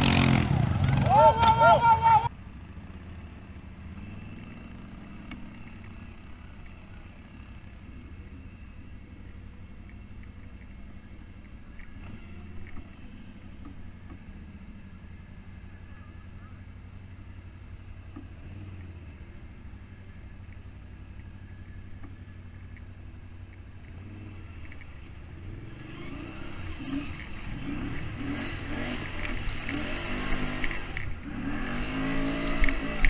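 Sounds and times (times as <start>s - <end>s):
off-road vehicle engine revving: 0.0s - 2.3s, 3.9s - 10.5s, 11.7s - 20.2s, 23.4s - 33.0s.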